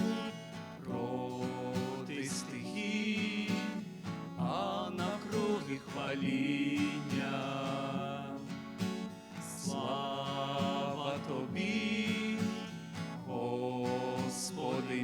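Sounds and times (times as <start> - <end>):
group singing a hymn: 0.0 - 15.0
guitar accompaniment: 0.0 - 15.0.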